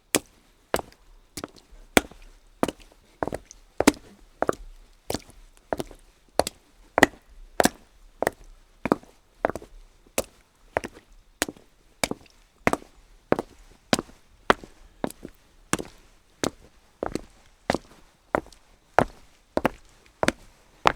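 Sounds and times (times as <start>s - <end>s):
footsteps on wet cobblestones: 0.1s - 20.9s.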